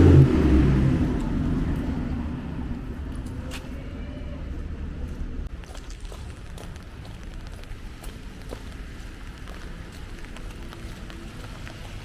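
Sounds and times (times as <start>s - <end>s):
road vehicle passing by: 0.0s - 5.5s, 6.1s - 12.0s.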